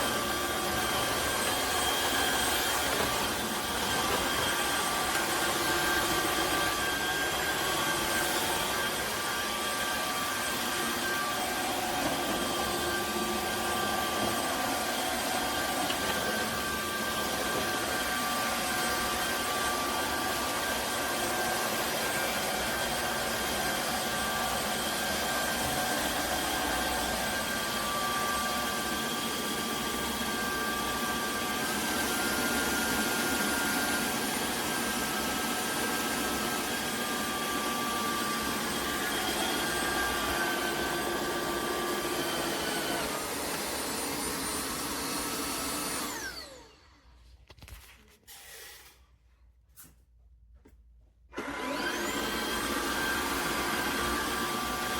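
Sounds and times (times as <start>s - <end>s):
vacuum cleaner motor whine: 0.0s - 47.2s, 51.3s - 54.9s.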